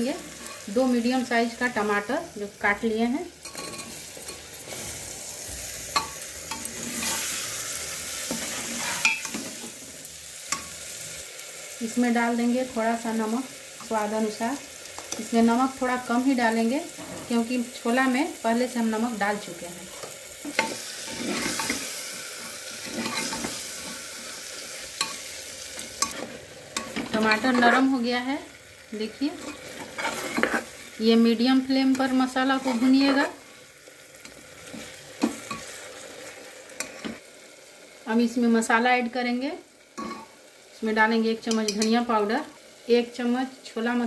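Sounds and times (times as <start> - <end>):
tomatoes sizzling in hot oil: 0.0 - 44.0.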